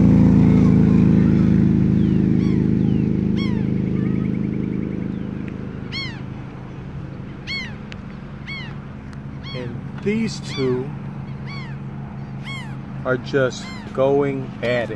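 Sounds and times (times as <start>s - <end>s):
gulls calling: 0.0s - 14.9s
vehicle engine hum: 0.0s - 14.9s.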